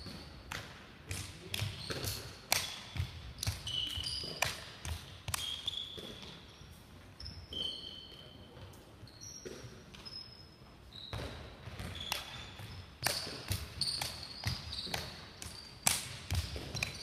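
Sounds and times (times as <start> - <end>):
sneakers squeaking: 0.0 - 17.0.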